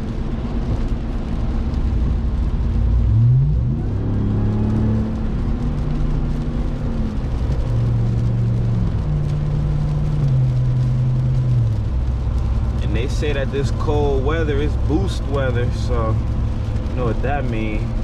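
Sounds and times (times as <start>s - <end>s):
truck engine revving while driving: 0.0s - 18.0s.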